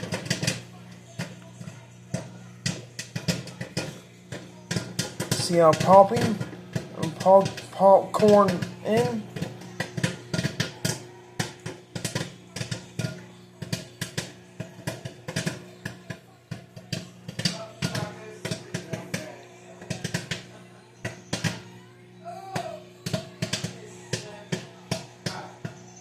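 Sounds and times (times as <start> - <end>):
microwave oven humming: 0.0 - 26.0
popcorn popping in a bag: 0.0 - 26.0.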